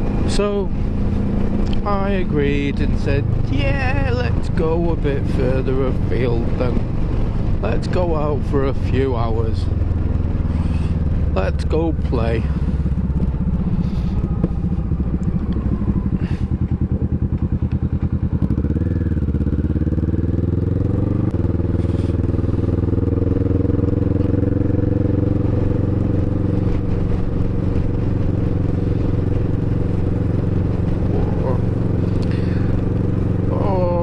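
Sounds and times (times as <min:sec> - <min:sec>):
motorcycle engine thrumming: 0:00.0 - 0:34.0.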